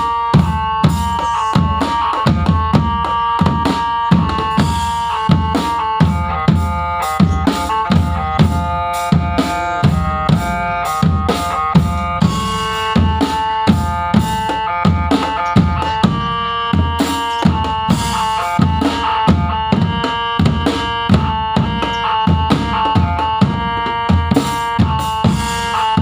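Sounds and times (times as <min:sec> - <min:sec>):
bass and snare drums beat: 0:00.0 - 0:26.0
melodic instruments melody: 0:00.0 - 0:26.0.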